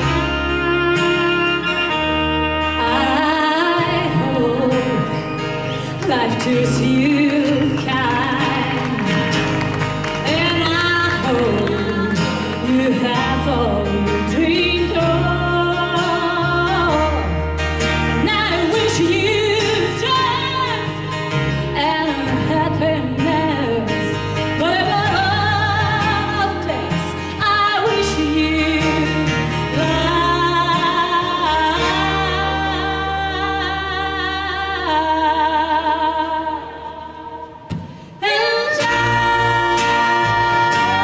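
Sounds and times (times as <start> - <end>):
strummed acoustic guitar: 0.0 - 34.8
women singing country song: 0.0 - 41.0.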